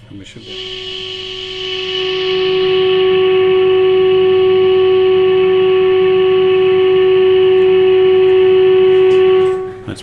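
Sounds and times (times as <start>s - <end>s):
radio loudspeaker test tone: 0.3s - 10.0s.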